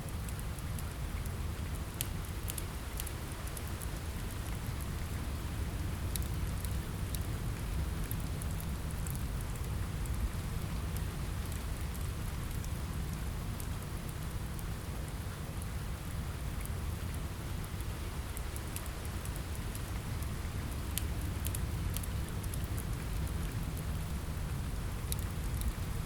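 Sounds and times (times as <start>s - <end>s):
steady rain: 0.0s - 26.0s
wood fire crackling: 0.0s - 26.0s.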